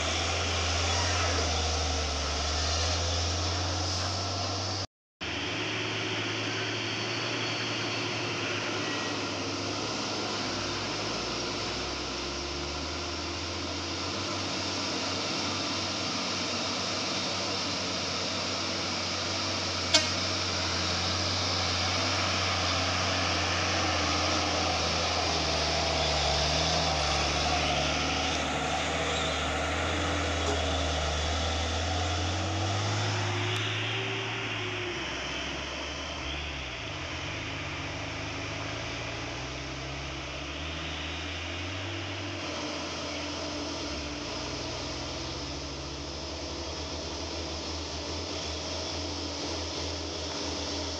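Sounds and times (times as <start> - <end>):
diesel truck engines labouring: 0.0 - 50.9.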